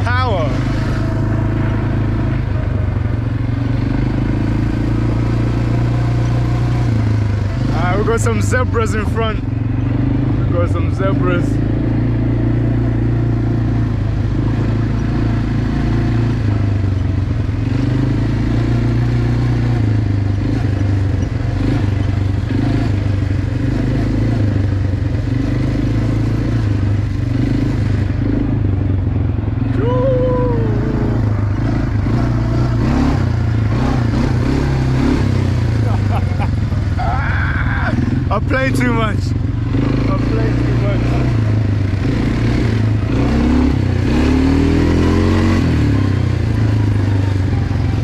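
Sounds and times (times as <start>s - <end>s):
quad bike engine droning: 0.0s - 48.0s.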